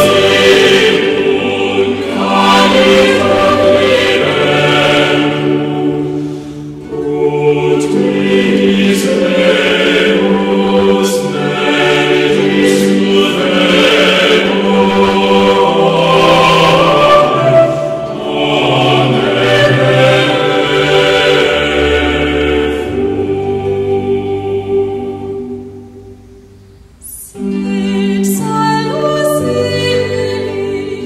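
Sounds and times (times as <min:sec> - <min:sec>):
choir singing held chords: 0:00.0 - 0:31.0.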